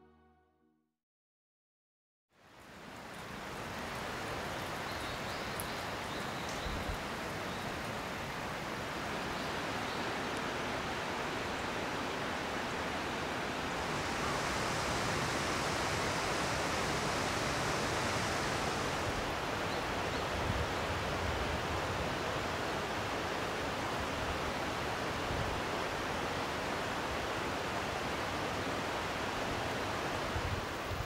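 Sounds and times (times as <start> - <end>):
flowing water rushing: 2.4 - 31.0.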